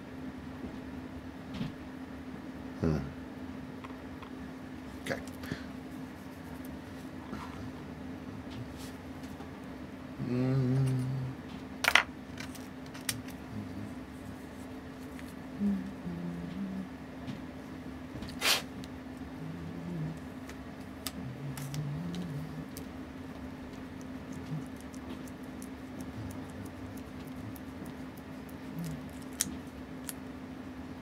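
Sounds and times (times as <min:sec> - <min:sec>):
low hum: 0:02.8 - 0:18.2, 0:18.8 - 0:31.0.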